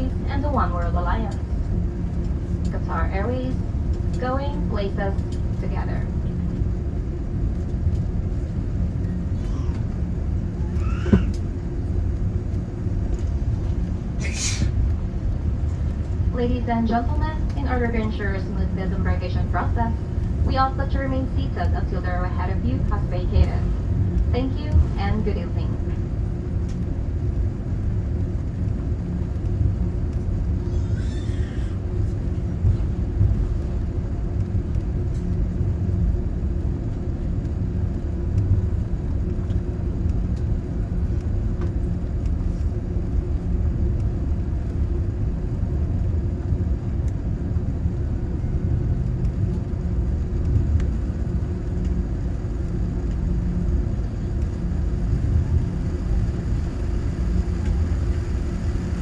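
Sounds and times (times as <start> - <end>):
low rumble of aircraft cabin: 0.0 - 59.0.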